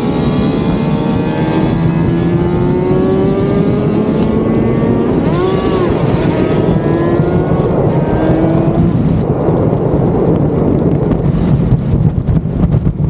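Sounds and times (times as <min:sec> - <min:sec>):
motorcycle engine accelerating: 0:00.0 - 0:13.0
wind rushing over microphone: 0:00.0 - 0:13.0.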